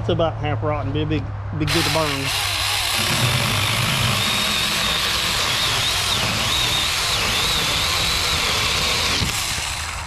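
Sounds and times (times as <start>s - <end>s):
electric chainsaw cutting log: 1.7s - 10.0s.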